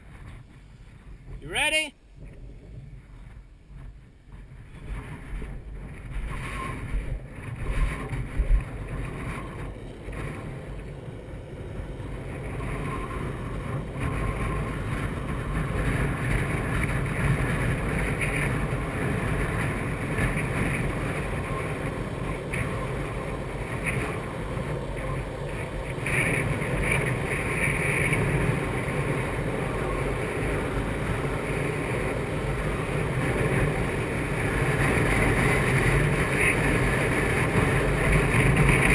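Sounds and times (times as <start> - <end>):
skateboard wheels rolling on asphalt: 0.0 - 38.9
wind buffeting microphone: 0.0 - 38.9.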